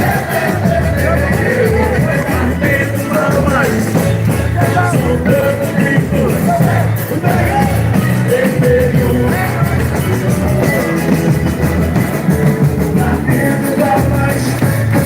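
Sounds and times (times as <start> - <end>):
band playing: 0.0 - 15.0
person singing: 0.0 - 15.0
steady drum beat: 0.0 - 15.0.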